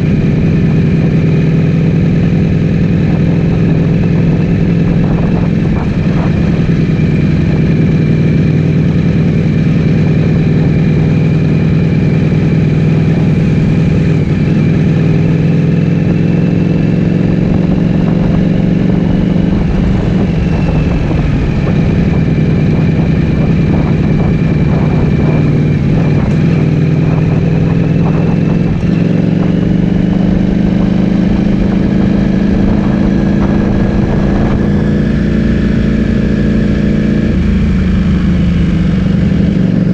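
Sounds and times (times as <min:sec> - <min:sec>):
loud motorcycle engine running: 0:00.0 - 0:39.9.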